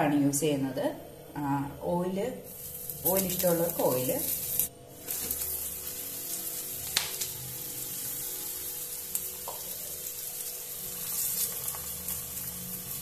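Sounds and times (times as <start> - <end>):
flatbread sizzling in butter: 2.5 - 13.0.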